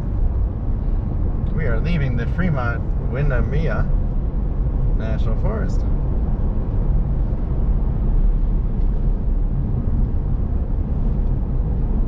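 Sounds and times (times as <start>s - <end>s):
vehicle engine and tyre noise: 0.0s - 12.0s.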